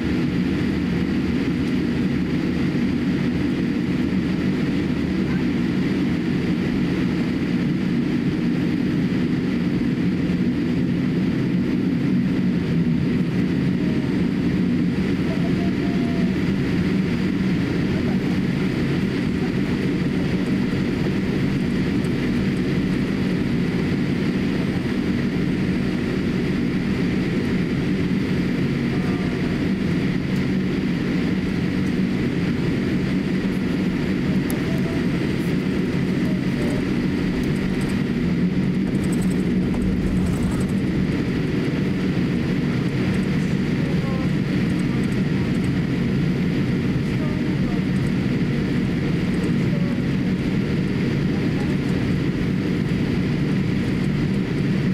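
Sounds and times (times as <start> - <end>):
aircraft engines rumbling: 0.0 - 54.9.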